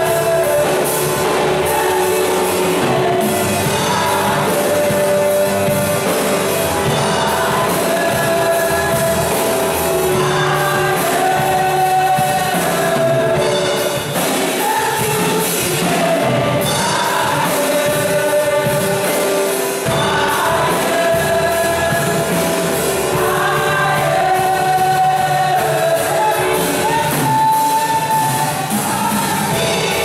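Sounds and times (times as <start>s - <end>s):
women's choir singing through pa: 0.0s - 30.0s.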